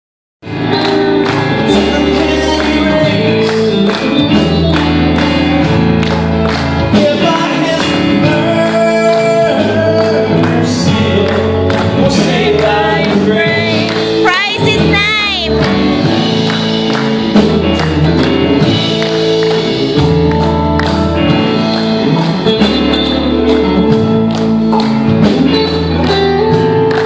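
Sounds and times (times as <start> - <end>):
drums keeping a steady beat: 0.4 - 27.0
upbeat gospel band playing: 0.4 - 27.0.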